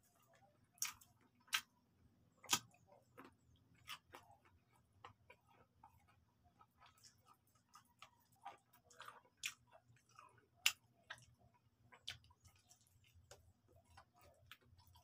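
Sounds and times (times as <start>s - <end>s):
chewing fried chicken: 0.0s - 15.0s.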